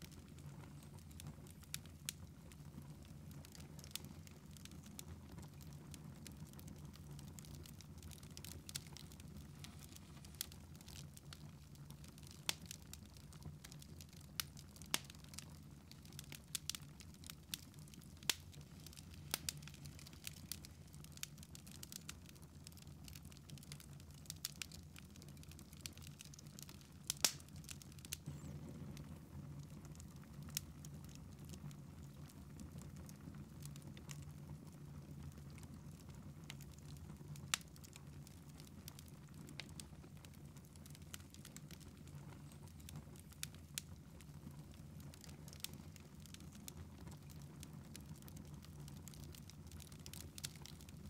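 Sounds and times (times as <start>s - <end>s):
log fire crackling: 0.0s - 51.0s.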